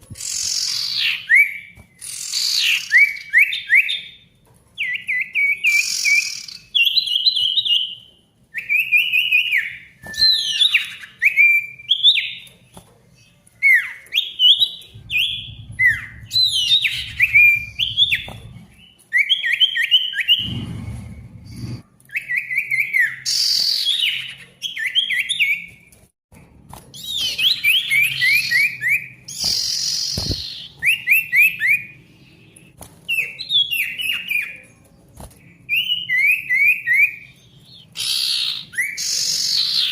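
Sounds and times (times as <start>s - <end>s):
songbird singing whistled notes: 0.1s - 4.2s, 4.8s - 12.5s, 13.2s - 25.8s, 27.0s - 34.8s, 35.6s - 39.9s.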